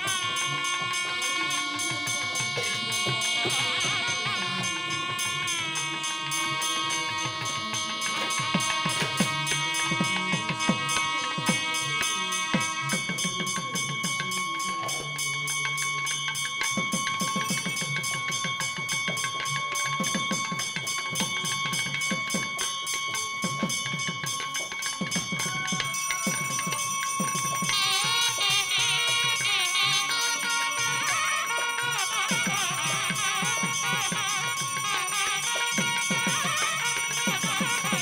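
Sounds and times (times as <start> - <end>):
bells ringing: 0.0 - 38.0
rhythmic low beat: 0.0 - 38.0.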